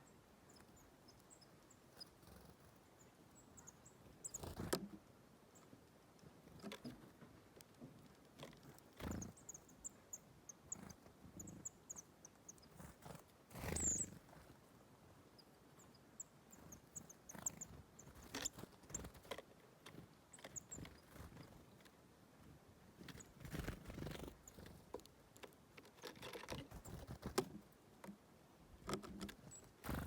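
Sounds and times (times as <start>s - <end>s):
small birds chirping: 0.0s - 28.2s, 28.8s - 30.0s.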